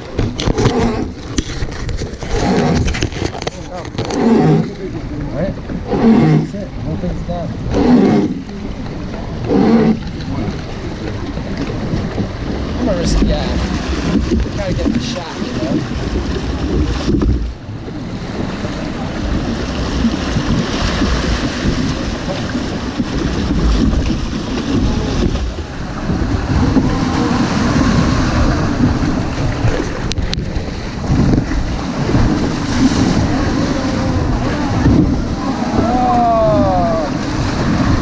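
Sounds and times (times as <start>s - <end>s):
river water rushing and splashing: 0.0s - 38.0s
wind buffeting microphone: 0.0s - 38.0s.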